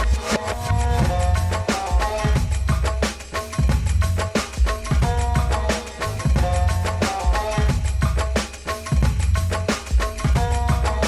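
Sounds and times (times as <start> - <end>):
music with heavy bass beat: 0.0 - 11.0.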